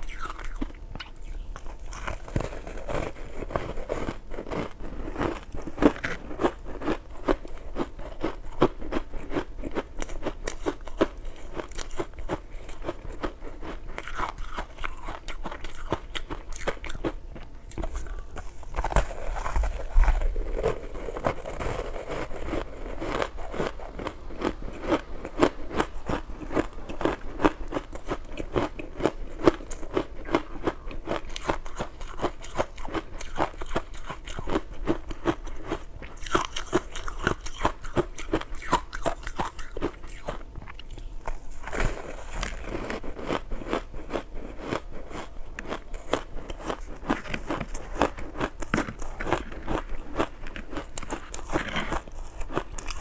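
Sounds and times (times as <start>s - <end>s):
chewing and crunching ice: 0.0s - 53.0s.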